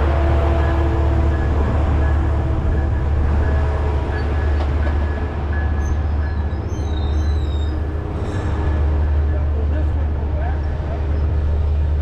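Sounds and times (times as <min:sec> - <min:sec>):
passenger train rolling past: 0:00.0 - 0:12.0
high train squeals: 0:00.6 - 0:09.4, 0:10.5 - 0:11.9.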